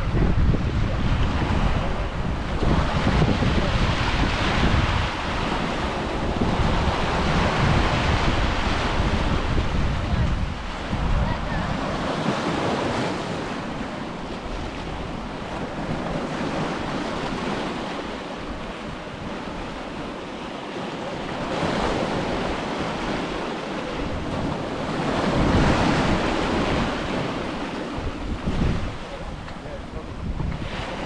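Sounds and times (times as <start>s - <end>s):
ocean waves breaking on beach: 0.0s - 31.0s
wind buffeting microphone: 0.0s - 31.0s.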